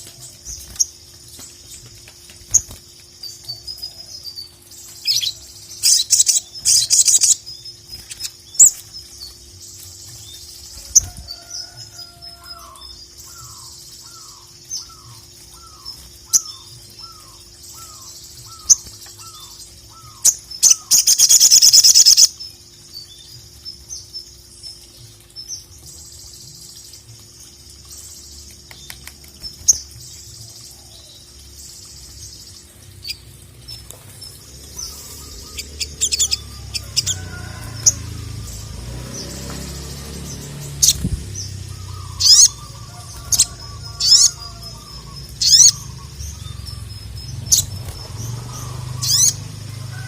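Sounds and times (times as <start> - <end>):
bird chirping and ticking: 0.0 - 50.0.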